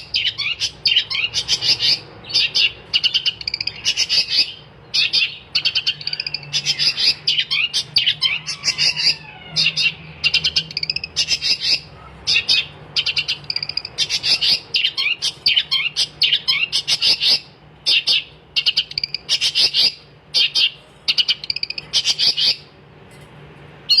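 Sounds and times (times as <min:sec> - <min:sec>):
bird scratchy chattering song: 0:00.0 - 0:22.8
faint low hum: 0:00.0 - 0:24.0.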